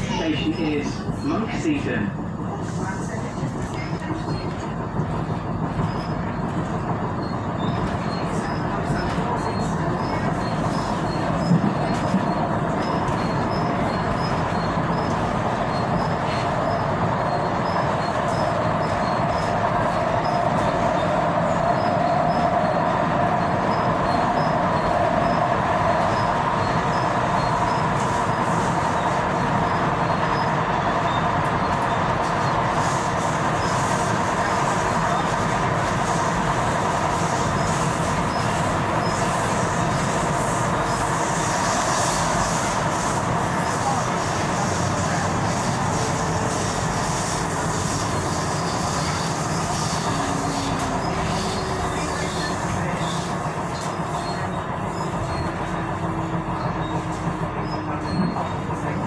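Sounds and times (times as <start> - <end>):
train wheels rumbling on rail: 0.0 - 59.0
train whining tone: 0.0 - 59.0.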